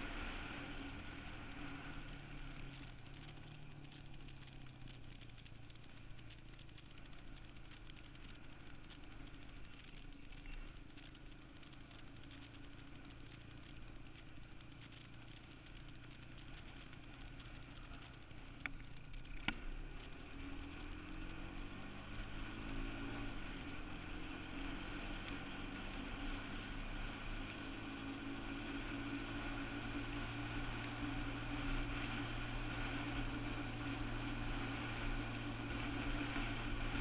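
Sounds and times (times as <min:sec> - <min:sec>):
atv engine running: 0:00.0 - 0:37.0.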